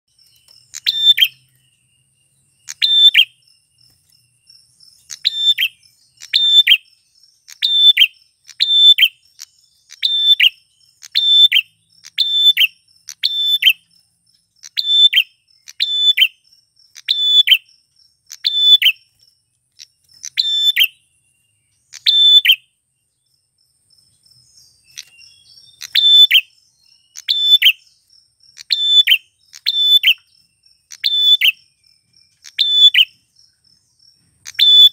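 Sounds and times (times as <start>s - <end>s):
bird sharp chirp calls: 0.1s - 34.9s.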